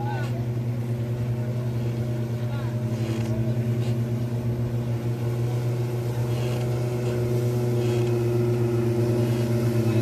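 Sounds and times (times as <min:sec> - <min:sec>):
motorboat engine droning: 0:00.0 - 0:10.0.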